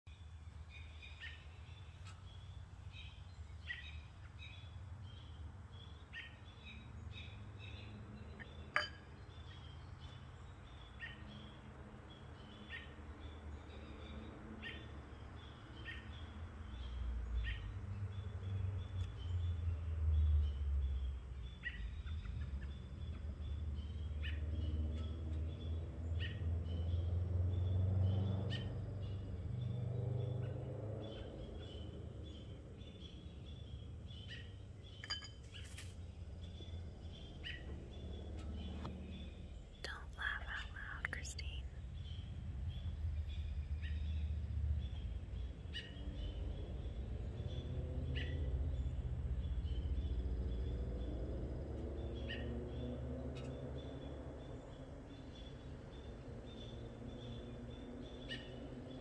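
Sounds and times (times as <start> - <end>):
small birds chirping: 0.1 - 59.0.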